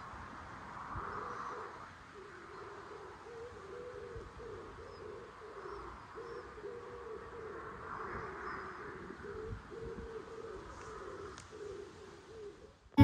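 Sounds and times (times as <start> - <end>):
pigeon cooing: 1.2 - 12.7.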